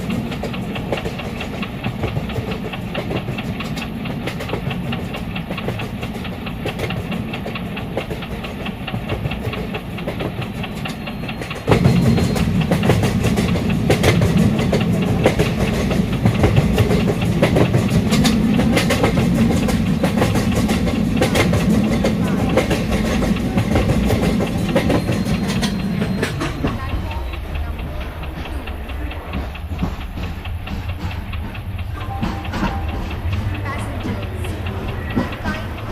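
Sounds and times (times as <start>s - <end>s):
train rumbling on track: 0.0s - 35.9s
wheels clacking over rail joints: 0.0s - 35.9s.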